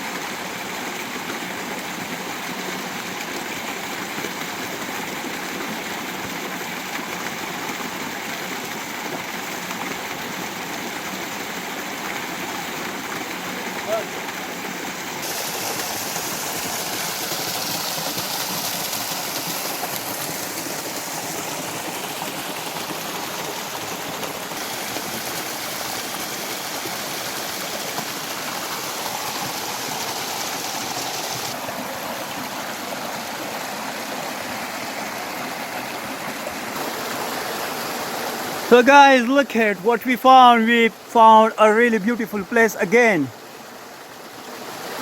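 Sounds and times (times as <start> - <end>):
river water rushing over rocks: 0.0 - 45.0.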